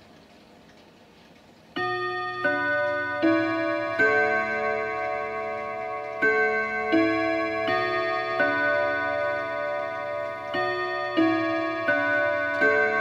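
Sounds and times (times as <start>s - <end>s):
clock chime on rod gongs: 1.8s - 13.0s.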